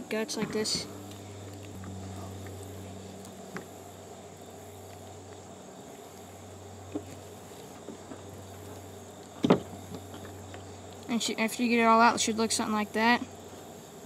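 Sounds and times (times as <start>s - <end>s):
insects droning: 0.0s - 14.0s
low steady hum: 0.0s - 14.0s.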